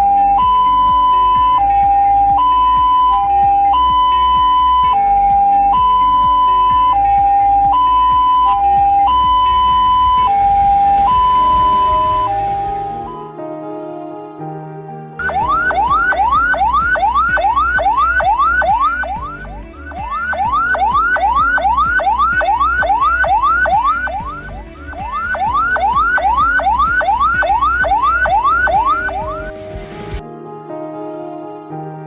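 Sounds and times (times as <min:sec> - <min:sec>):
ambulance siren yelp: 0:00.0 - 0:13.3, 0:15.2 - 0:29.6.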